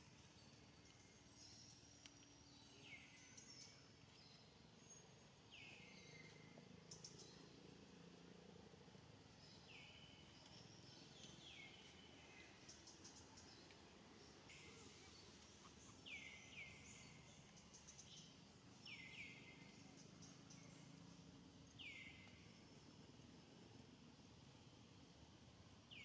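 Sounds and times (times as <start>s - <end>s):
faint outdoor ambience: 0.0s - 26.0s.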